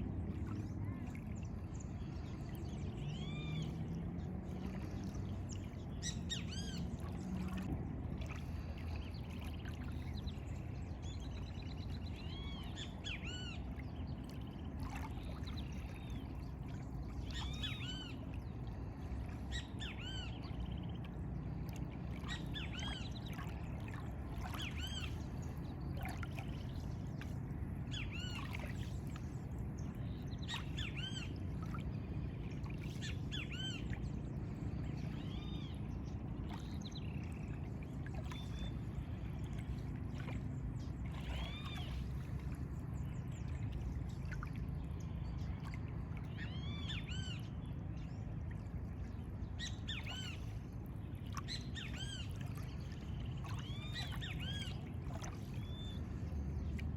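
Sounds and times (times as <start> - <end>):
low rush of water: 0.0 - 56.9.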